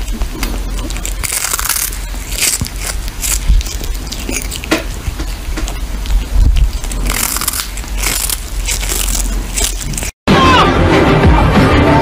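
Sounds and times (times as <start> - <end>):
kitten crunching on dried fish: 0.0 - 10.2.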